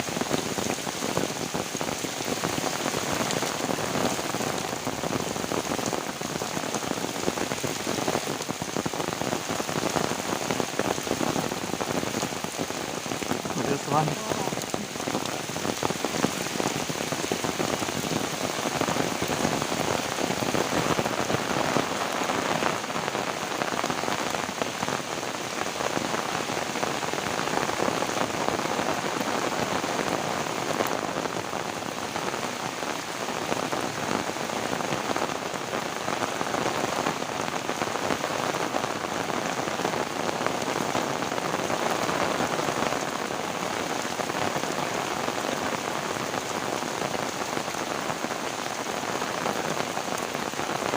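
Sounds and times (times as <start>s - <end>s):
heavy rain pattering: 0.0s - 50.9s.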